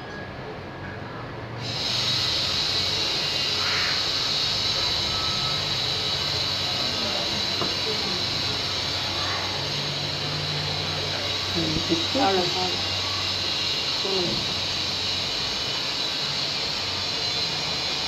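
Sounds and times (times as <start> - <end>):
steady hiss: 1.6 - 18.0.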